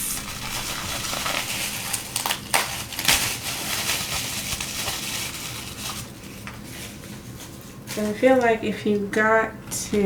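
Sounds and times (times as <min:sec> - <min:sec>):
packaging crinkling: 0:00.0 - 0:08.2.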